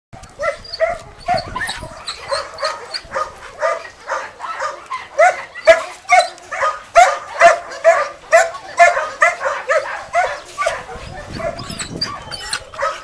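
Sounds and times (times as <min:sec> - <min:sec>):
dog barking: 0:00.2 - 0:13.0.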